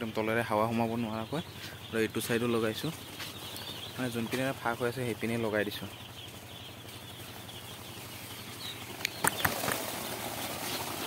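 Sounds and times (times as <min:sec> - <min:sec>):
chicks peeping: 0:00.0 - 0:11.0
low steady hum: 0:00.0 - 0:11.0.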